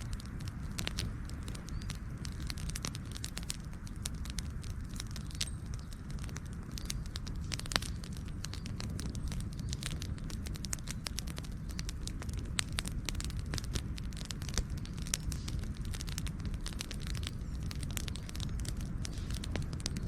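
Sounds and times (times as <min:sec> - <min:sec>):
low rumble of flame: 0:00.0 - 0:20.0
wood fire crackling and popping: 0:00.0 - 0:20.0.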